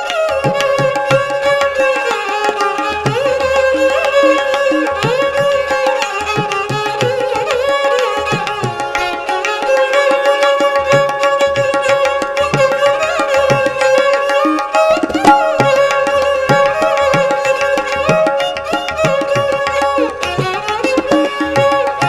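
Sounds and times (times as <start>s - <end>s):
bowed string instrument melody: 0.0s - 22.0s
tabla rhythm: 0.0s - 22.0s.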